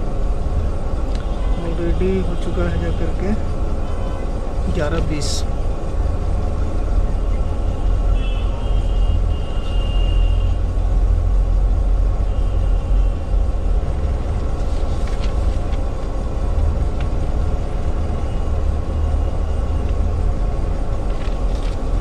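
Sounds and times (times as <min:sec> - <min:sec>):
faint high whine: 0:00.0 - 0:21.8
bus diesel engine idling: 0:00.0 - 0:22.0.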